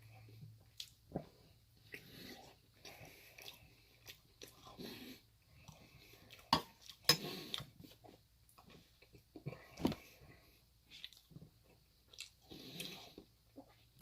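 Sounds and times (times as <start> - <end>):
close chewing and mouth sounds: 0.0 - 14.0.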